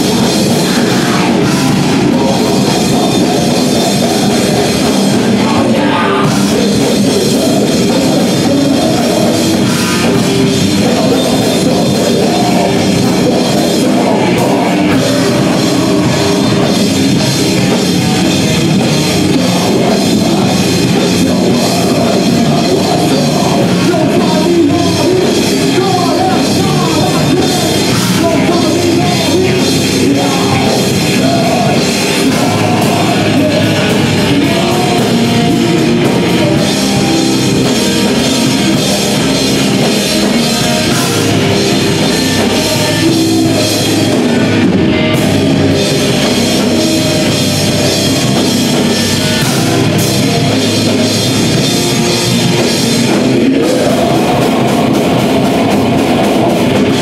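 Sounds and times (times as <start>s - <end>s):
vocalist singing into microphone: 0.0s - 50.9s, 51.5s - 57.0s
distorted electric guitar: 0.0s - 57.0s
drum kit: 0.0s - 57.0s.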